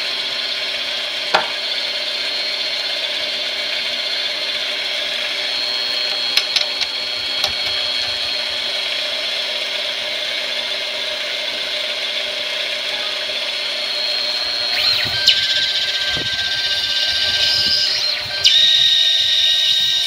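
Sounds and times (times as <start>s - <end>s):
lathe gear whine: 0.0s - 20.0s.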